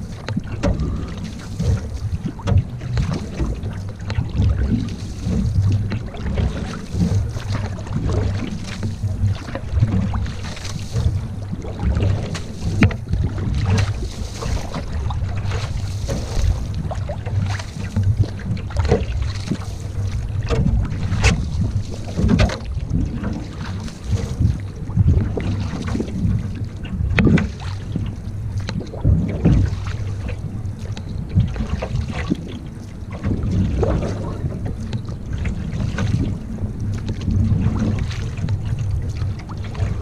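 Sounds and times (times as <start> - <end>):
paddle strokes swishing water: 0.0 - 40.0
wind rumble on microphone: 0.0 - 40.0.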